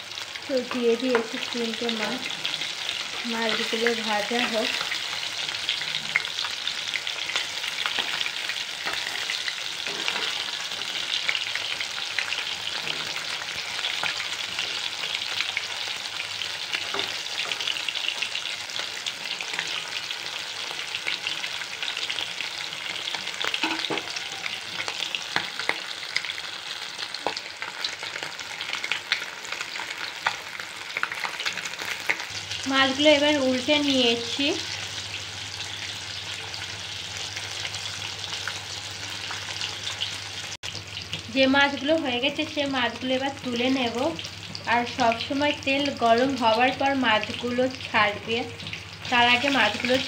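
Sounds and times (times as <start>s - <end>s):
fish sizzling in hot oil: 0.0s - 50.0s.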